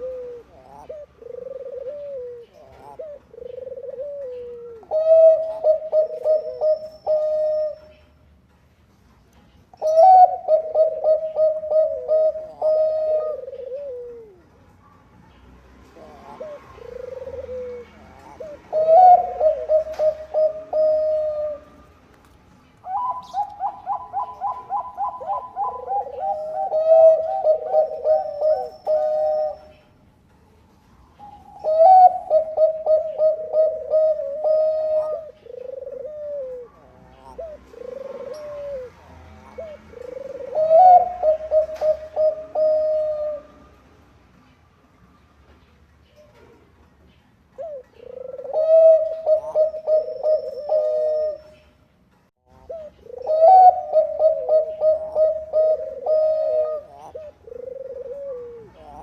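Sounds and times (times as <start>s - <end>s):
doves cooing: 0.0s - 8.2s, 9.6s - 14.6s, 15.8s - 30.0s, 31.0s - 43.8s, 47.5s - 51.9s, 52.5s - 59.0s.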